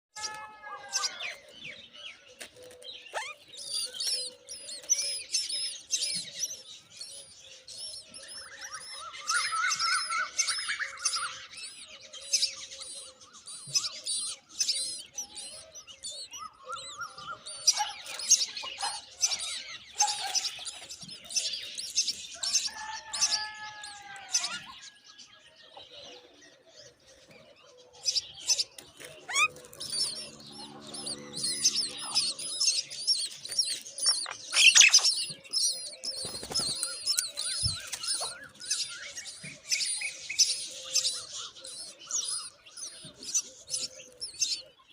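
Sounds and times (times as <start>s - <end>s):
chicks chirping: 0.2s - 44.9s.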